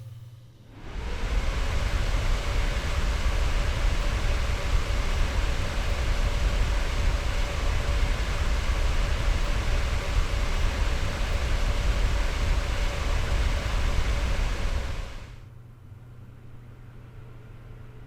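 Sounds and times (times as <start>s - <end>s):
cooling fans running: 0.7s - 18.0s.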